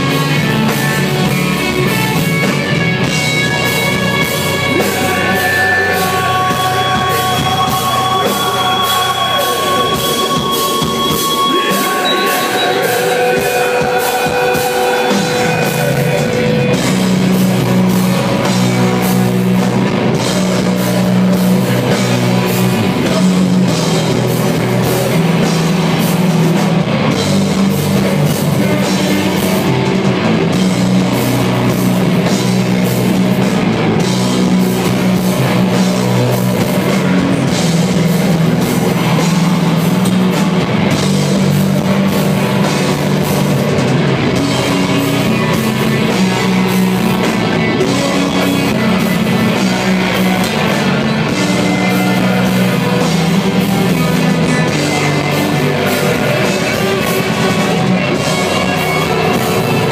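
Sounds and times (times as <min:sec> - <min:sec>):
distorted electric guitars: 0:00.0 - 0:59.9
drum kit: 0:00.0 - 0:59.9
keyboard: 0:00.0 - 0:59.9.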